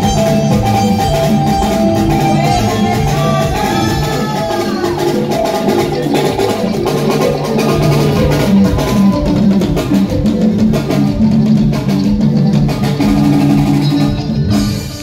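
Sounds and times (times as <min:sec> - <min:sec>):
band playing a steady groove: 0:00.0 - 0:15.0.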